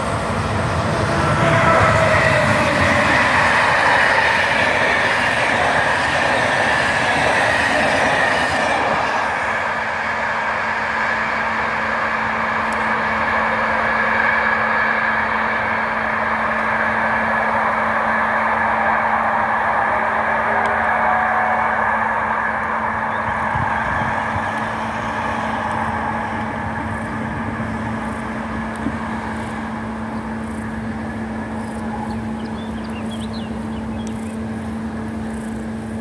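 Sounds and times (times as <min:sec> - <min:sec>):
steady low hum: 0:00.0 - 0:36.0
train rumble and hiss: 0:00.0 - 0:36.0.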